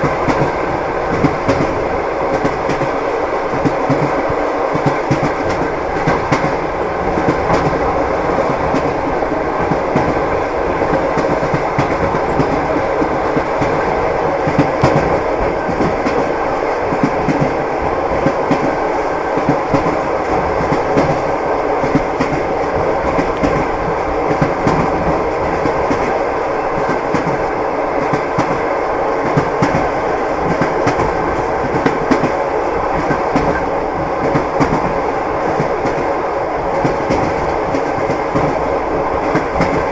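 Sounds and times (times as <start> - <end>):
rumble of moving train carriage: 0.0 - 39.9
train wheels clicking over rail joints: 0.0 - 39.9.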